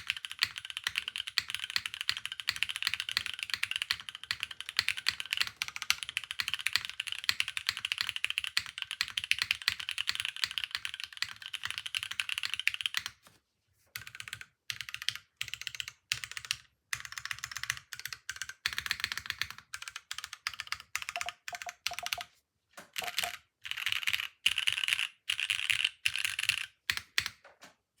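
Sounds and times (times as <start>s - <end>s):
mechanical keyboard typing: 0.0s - 13.2s, 14.0s - 22.3s, 23.0s - 27.4s.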